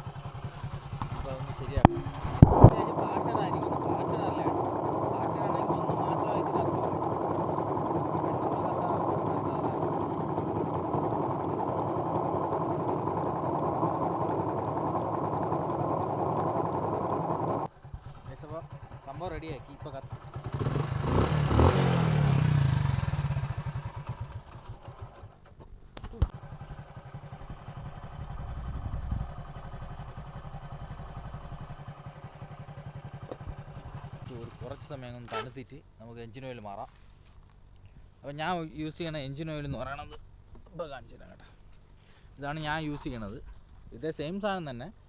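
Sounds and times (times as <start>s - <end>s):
motorcycle engine idling: 0.0s - 36.2s.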